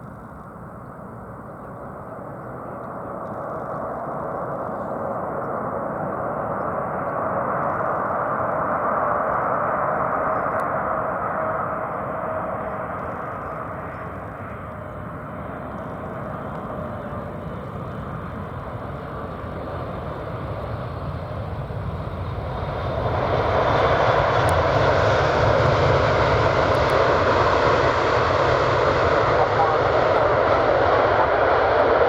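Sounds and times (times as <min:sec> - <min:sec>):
jet engines roaring: 0:05.6 - 0:32.0.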